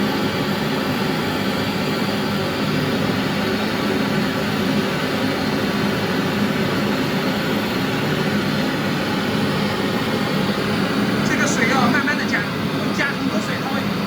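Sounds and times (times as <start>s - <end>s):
steady roar of noise: 0.0s - 14.0s.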